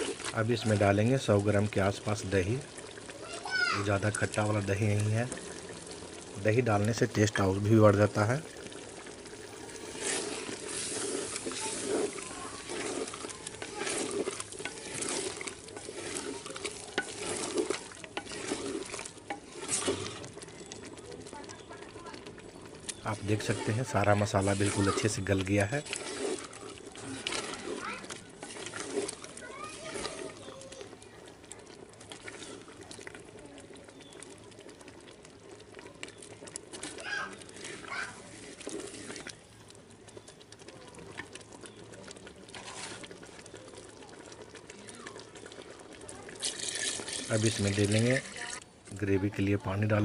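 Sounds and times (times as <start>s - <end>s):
food sizzling: 0.0s - 50.0s
wooden spatula scraping a pot: 0.0s - 50.0s
small scattered pops: 1.6s - 48.9s.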